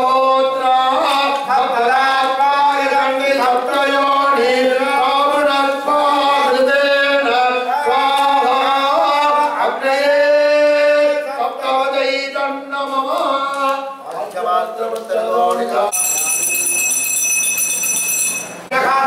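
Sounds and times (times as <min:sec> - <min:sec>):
men chanting in sung tone: 0:00.0 - 0:15.9.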